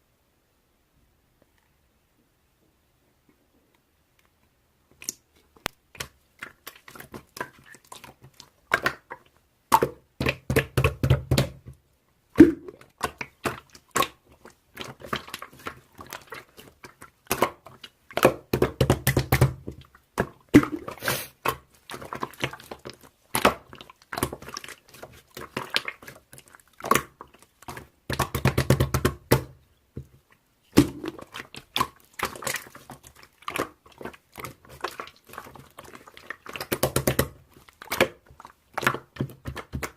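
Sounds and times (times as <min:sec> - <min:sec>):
slime squishing by hand: 0:04.9 - 0:39.9.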